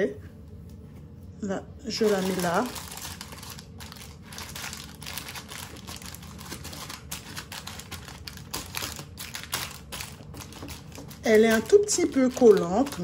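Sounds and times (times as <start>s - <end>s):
baking paper crinkling: 1.8s - 13.0s.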